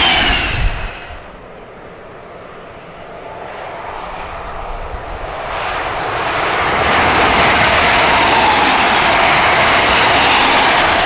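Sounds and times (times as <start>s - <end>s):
train approaching rumble: 0.0s - 11.0s.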